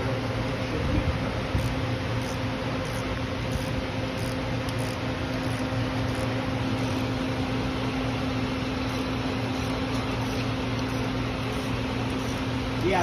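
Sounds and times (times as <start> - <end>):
air conditioning unit humming: 0.0 - 13.0.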